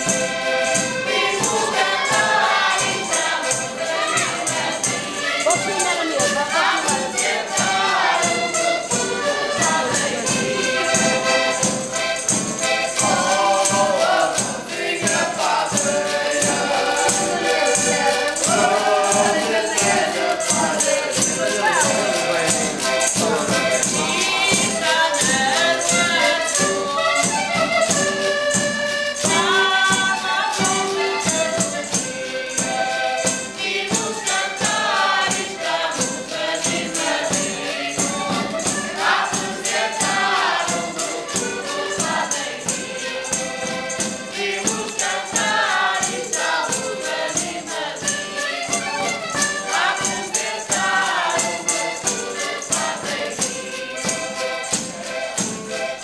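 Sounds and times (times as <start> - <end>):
button accordion: 0.0 - 56.0
drum and hand percussion: 0.0 - 56.0
group singing: 0.0 - 56.0.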